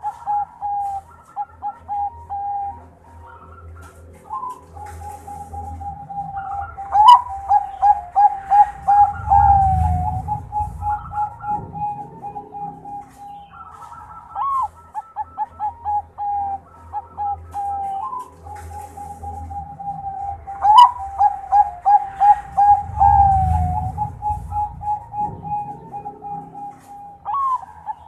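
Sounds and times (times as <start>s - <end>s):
dove cooing: 0.0s - 28.0s.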